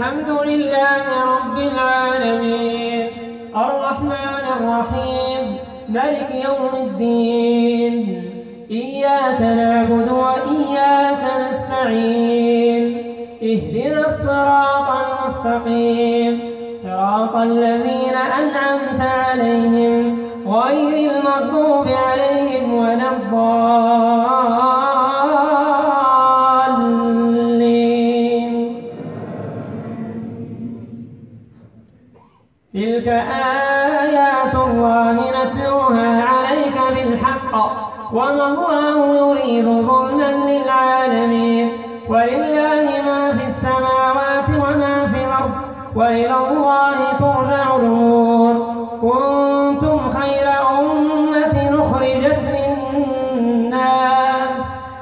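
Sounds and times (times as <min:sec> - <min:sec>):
man reciting in melodic chant: 0:00.0 - 0:29.0, 0:32.1 - 0:55.0.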